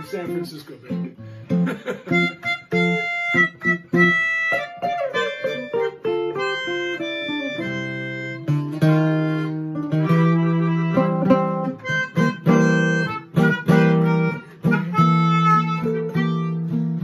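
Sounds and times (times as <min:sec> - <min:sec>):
jazz electric guitar: 0:00.0 - 0:17.0
melodica playing: 0:00.0 - 0:17.0.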